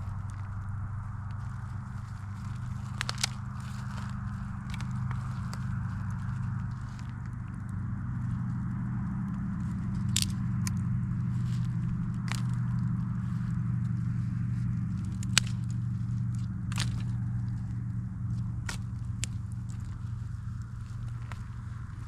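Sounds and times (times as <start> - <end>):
campfire flames rumbling: 0.0 - 22.0
fire crackling pops: 0.0 - 22.0.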